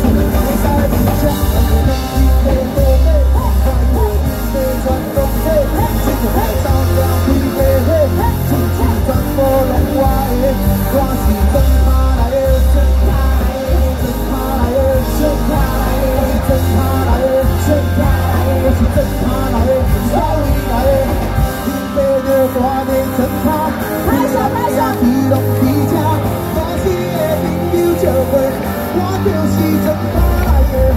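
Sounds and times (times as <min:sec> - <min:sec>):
lead vocal singing: 0:00.0 - 0:30.9
rock band playing: 0:00.0 - 0:30.9.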